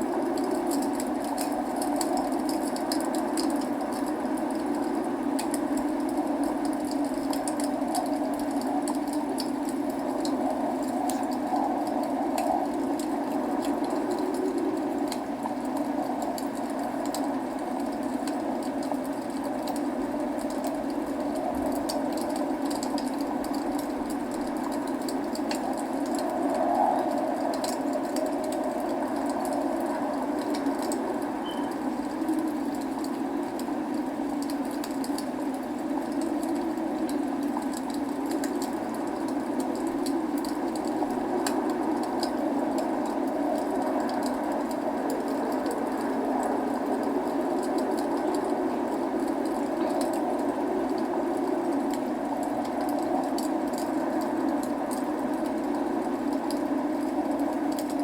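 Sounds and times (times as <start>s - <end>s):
rain hiss: 0.0s - 58.0s
wood fire crackling: 0.0s - 58.0s.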